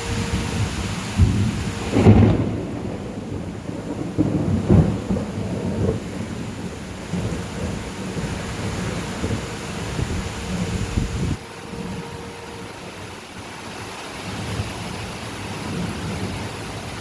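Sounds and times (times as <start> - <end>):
gusting wind: 0.0 - 17.0
rain: 0.0 - 17.0.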